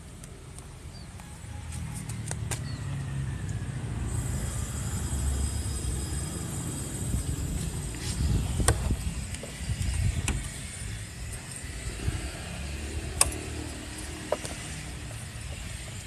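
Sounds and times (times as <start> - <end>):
small motorcycle engine rumble: 1.8 - 16.0.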